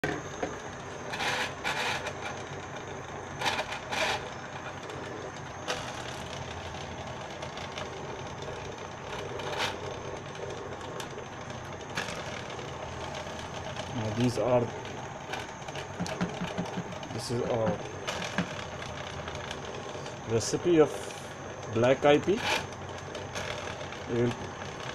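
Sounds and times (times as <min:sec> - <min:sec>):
stew bubbling at a rolling boil: 0:00.0 - 0:24.9.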